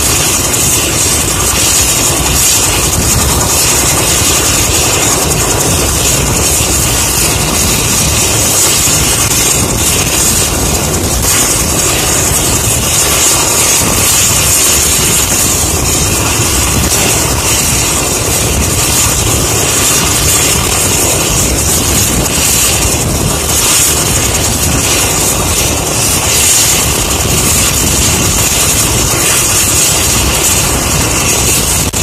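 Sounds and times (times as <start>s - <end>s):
helicopter engine and rotor noise: 0.0s - 32.0s.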